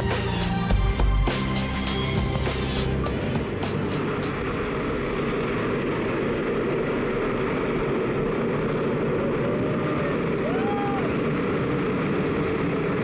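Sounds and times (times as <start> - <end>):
propeller plane engine noise: 0.0 - 13.0
rushing wind: 0.0 - 13.0.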